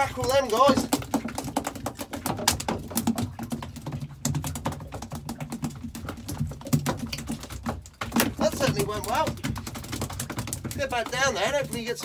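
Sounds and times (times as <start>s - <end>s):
fish thrashing tapping and rattling: 0.0s - 12.0s.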